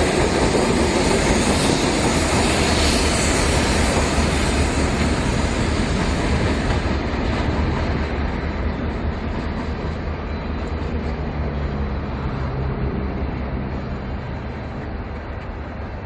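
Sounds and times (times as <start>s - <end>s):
diesel locomotive engine drone: 0.0s - 16.0s
rail noise: 0.0s - 16.0s.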